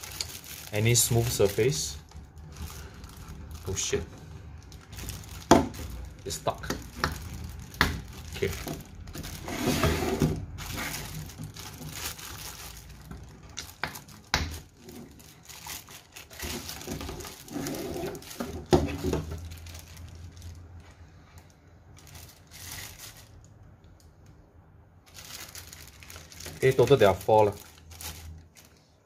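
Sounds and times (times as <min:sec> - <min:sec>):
plastic bags crinkling: 0:00.0 - 0:24.1, 0:25.0 - 0:29.0.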